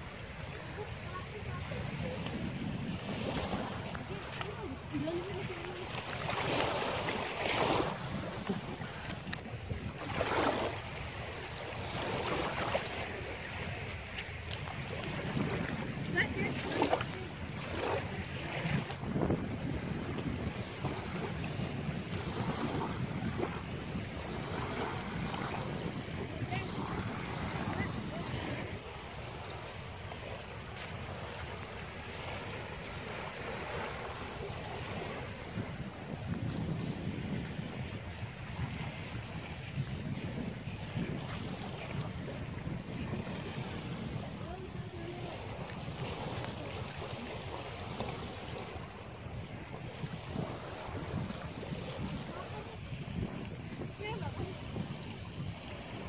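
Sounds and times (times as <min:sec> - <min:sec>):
water washing in swells: 0:00.0 - 0:56.0
wind noise on microphone: 0:00.0 - 0:56.0.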